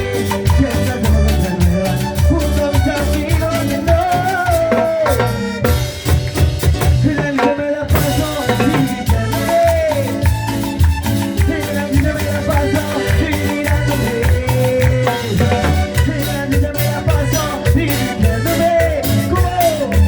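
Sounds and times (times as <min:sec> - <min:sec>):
salsa music: 0:00.0 - 0:20.0.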